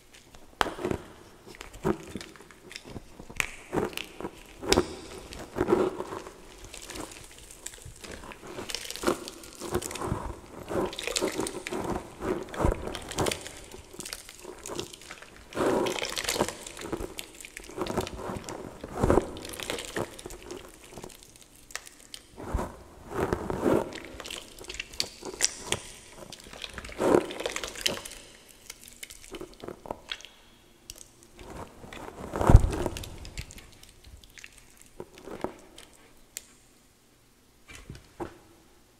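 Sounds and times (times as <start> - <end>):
wet chalk squelching: 0.0 - 22.4, 23.1 - 30.3, 30.9 - 36.6.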